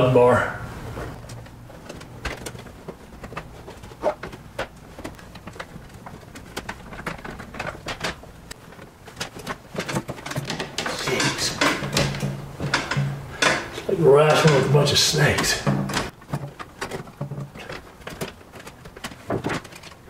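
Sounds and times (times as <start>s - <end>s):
wire scraping in metal box: 1.1s - 20.0s.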